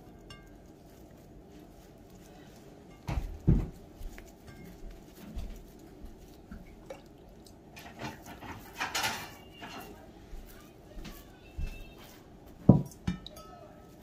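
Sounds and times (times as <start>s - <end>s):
wet dough squishing: 0.0s - 14.0s.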